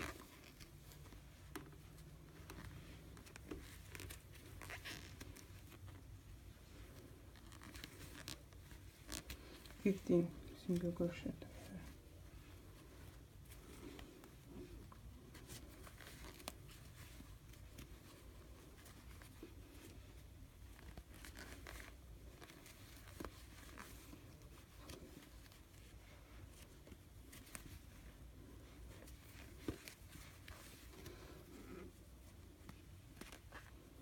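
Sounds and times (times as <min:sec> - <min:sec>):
yarn rustling: 0:00.0 - 0:34.0.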